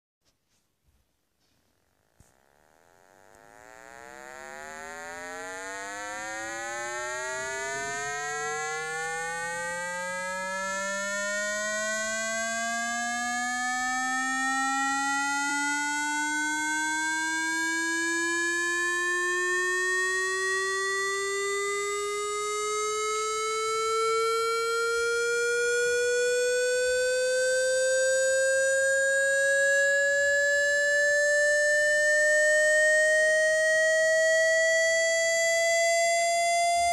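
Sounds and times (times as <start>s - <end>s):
rising test-tone sweep: 2.2s - 36.9s.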